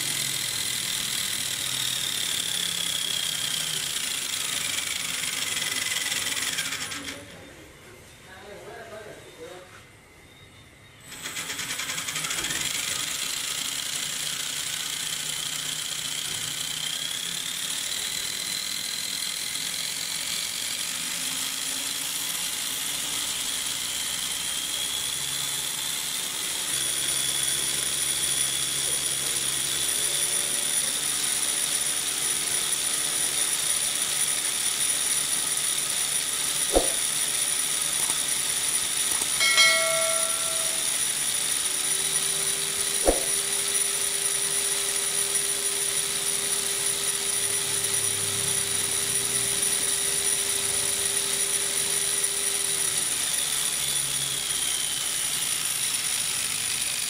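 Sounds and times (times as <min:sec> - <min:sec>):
electric motor whine with gear noise: 0:00.0 - 0:07.5, 0:10.0 - 0:57.0.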